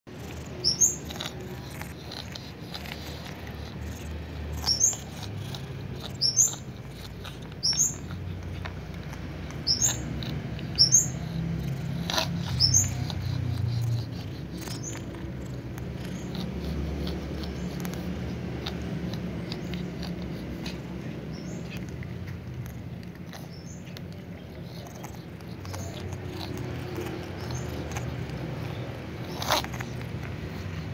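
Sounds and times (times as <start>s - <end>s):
cat crunching dry food: 0.1s - 30.9s.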